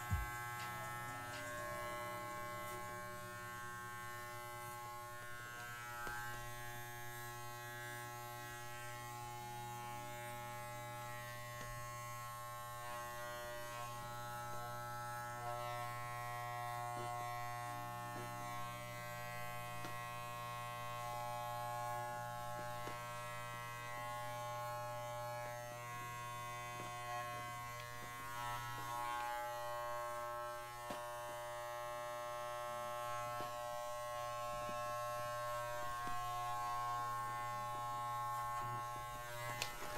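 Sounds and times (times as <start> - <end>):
electric clippers buzzing: 0.0 - 39.9.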